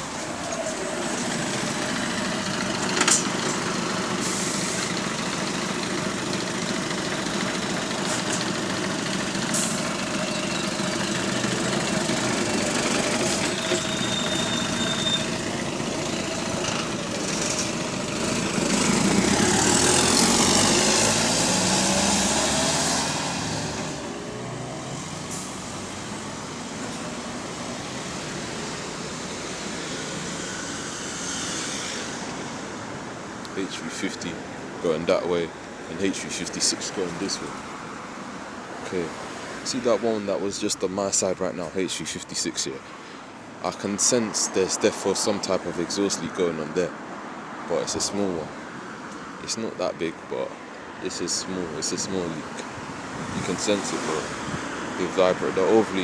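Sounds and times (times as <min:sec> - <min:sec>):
diesel buses passing: 0:00.0 - 0:56.0.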